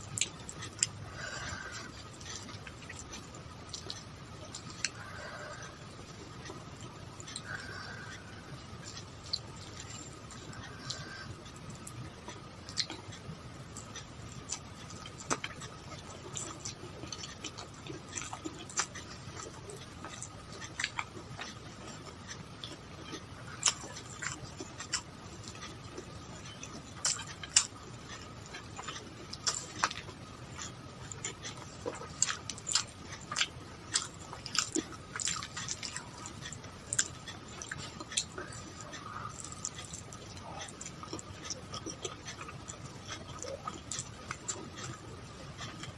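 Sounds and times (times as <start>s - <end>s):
faint steady hum: 0.0s - 45.9s
person chewing: 0.0s - 45.9s.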